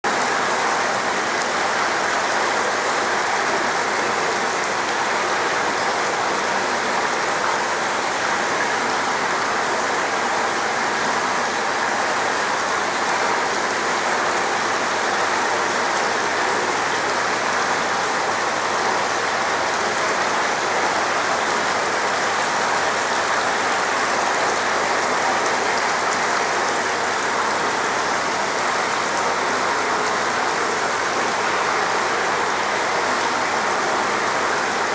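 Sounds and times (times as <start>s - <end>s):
water rushing and splashing: 0.1s - 34.9s.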